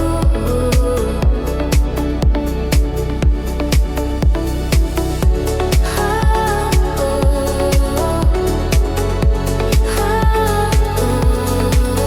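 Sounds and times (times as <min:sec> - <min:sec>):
sustained synth chords and bass: 0:00.0 - 0:12.0
four-on-the-floor kick drum: 0:00.2 - 0:12.0.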